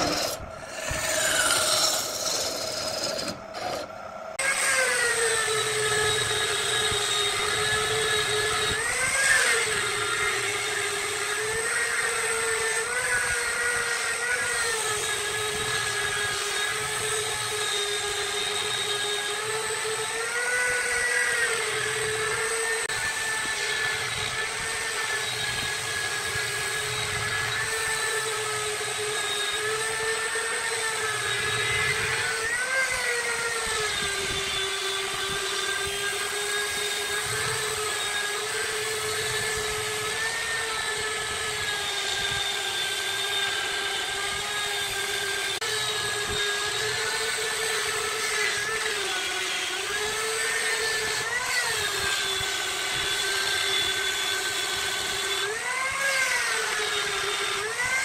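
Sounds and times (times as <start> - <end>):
power tool motor whining: 0.0 - 58.0.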